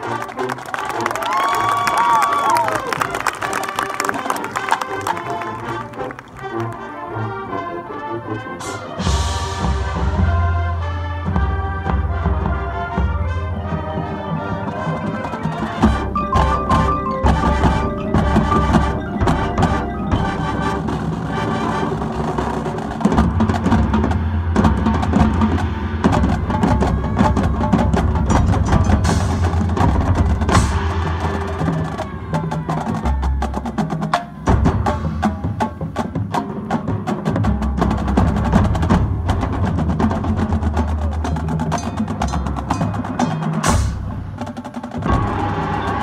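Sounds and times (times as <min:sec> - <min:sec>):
marching band playing: 0:00.0 - 0:46.0
drum and percussion hits: 0:08.6 - 0:46.0.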